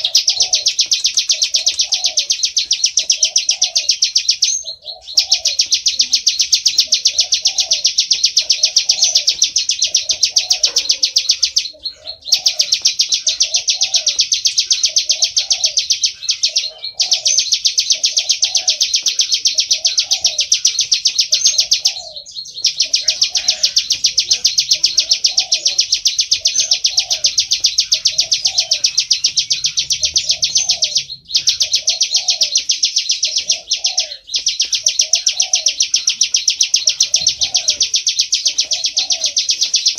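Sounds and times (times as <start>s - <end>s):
bird high trill: 0.0s - 39.9s.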